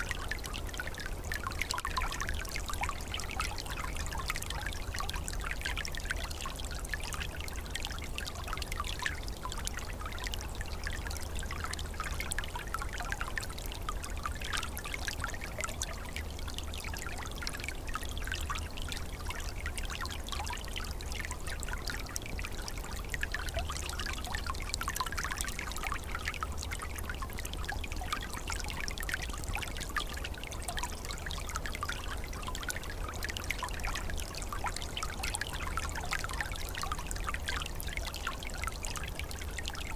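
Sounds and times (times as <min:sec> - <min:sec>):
low rumble of water: 0:00.0 - 0:39.9
stream trickling over stones: 0:00.0 - 0:39.9.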